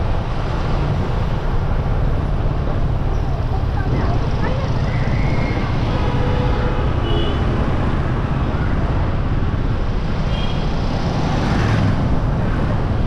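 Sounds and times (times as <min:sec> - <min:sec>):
motorcycle engines: 0:00.0 - 0:13.0
road noise: 0:00.0 - 0:13.0.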